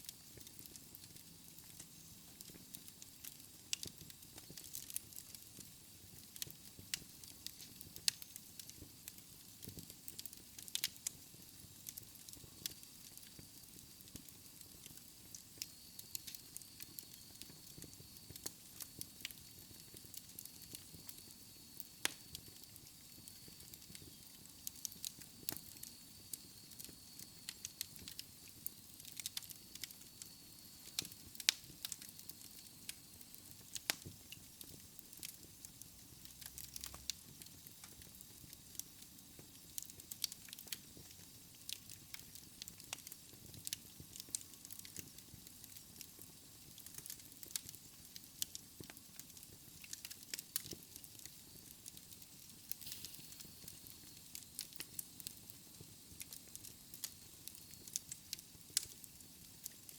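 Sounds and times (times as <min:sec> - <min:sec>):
soft fire hiss: 0:00.0 - 0:59.9
wood fire crackling and popping: 0:00.0 - 0:59.9.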